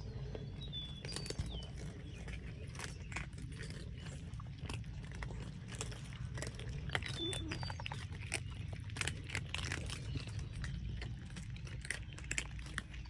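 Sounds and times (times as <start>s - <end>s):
cats crunching dry kibble: 0.0s - 13.0s.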